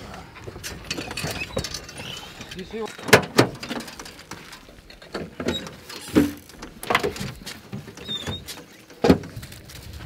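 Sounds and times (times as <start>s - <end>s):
knocks and clanks from truck: 0.4s - 9.4s.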